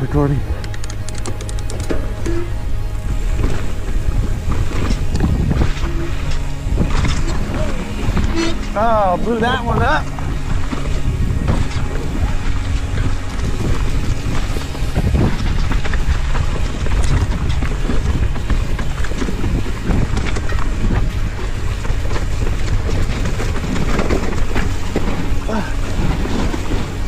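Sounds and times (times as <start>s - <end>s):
wind rushing over microphone: 0.0s - 27.0s
bike clattering over bumps: 3.4s - 27.0s.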